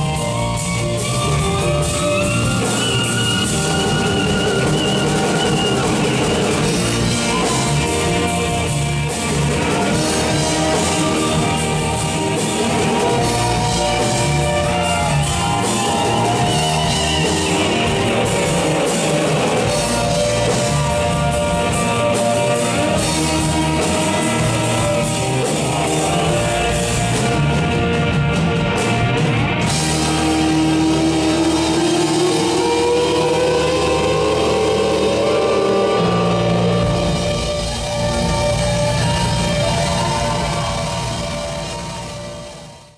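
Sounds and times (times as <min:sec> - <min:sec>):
bass guitar: 0:00.0 - 0:42.9
drums: 0:00.0 - 0:42.9
electric guitars: 0:00.0 - 0:42.9
piano: 0:00.0 - 0:42.9.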